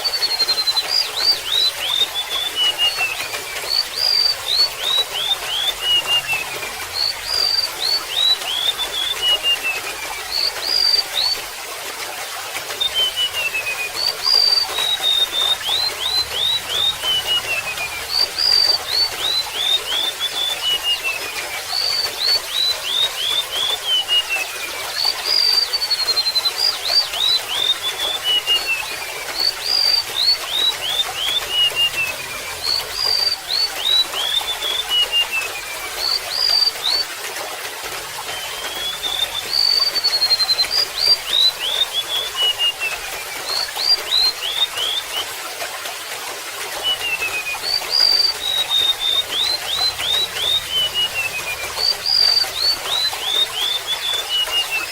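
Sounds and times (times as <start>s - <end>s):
bird singing whistled notes: 0.0s - 11.6s, 12.7s - 37.1s, 38.2s - 45.3s, 46.8s - 54.9s
water trickling: 0.0s - 54.9s.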